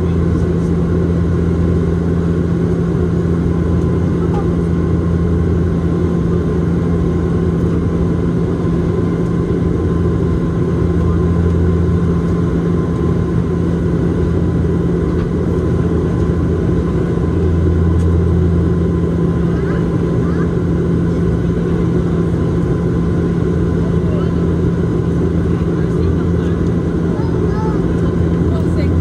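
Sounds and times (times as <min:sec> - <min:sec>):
airplane propeller and engine drone: 0:00.0 - 0:29.0.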